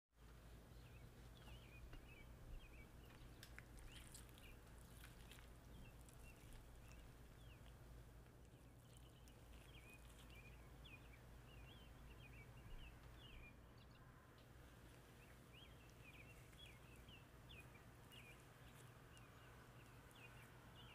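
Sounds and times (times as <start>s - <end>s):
low steady hum: 0.2s - 20.9s
small birds chirping: 0.2s - 20.9s.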